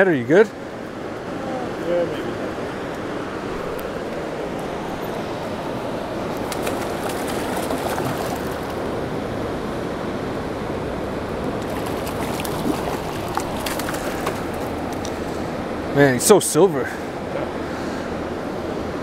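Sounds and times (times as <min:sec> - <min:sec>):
fast-flowing river rushing: 0:00.6 - 0:19.0.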